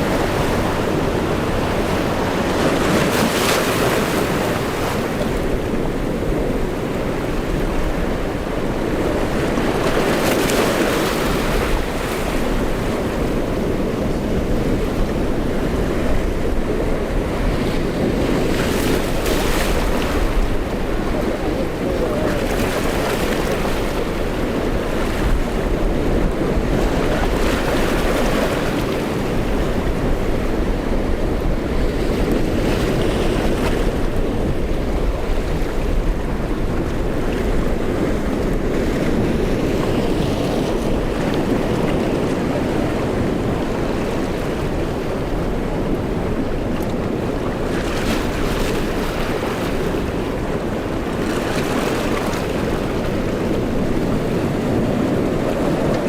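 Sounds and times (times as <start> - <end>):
surf and breaking waves: 0.0 - 56.0
wind buffeting microphone: 0.0 - 56.0.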